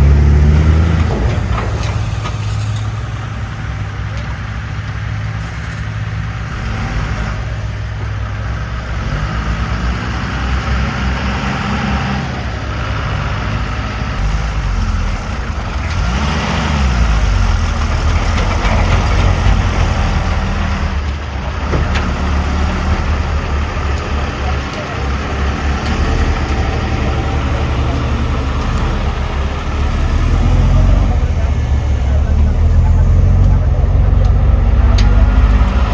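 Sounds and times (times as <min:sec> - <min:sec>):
heavy vehicle engine revving: 0:00.0 - 0:35.9.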